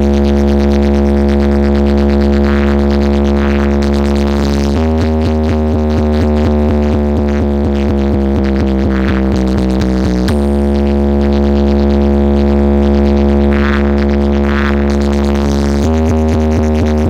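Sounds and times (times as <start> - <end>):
loud electronic music: 0.0 - 17.0.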